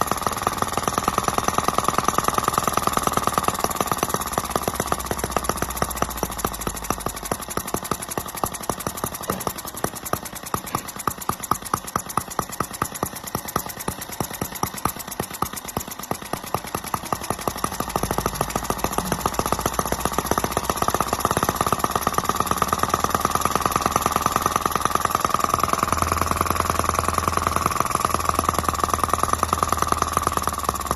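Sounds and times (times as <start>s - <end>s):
model engine knocking: 0.0s - 30.9s.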